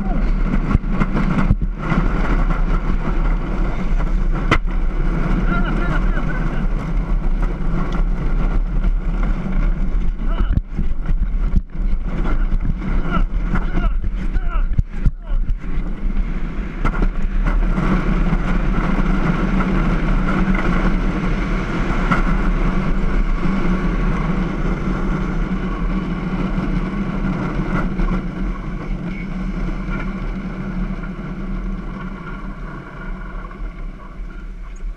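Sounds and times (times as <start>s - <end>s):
hard wheels rolling on asphalt: 0.0s - 34.9s
wind buffeting microphone: 0.0s - 34.9s.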